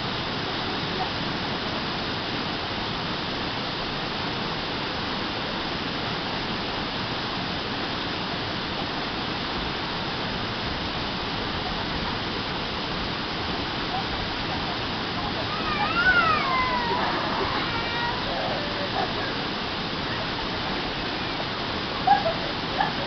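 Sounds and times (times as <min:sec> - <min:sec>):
waterfall rushing: 0:00.1 - 0:23.0.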